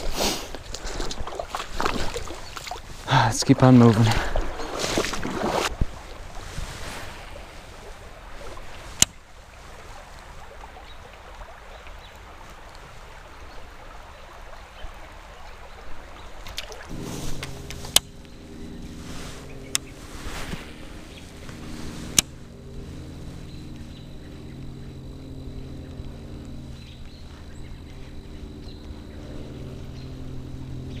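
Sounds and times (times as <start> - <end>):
water sloshing from wading: 0.0 - 3.1, 3.7 - 30.9
low steady hum: 0.0 - 31.0.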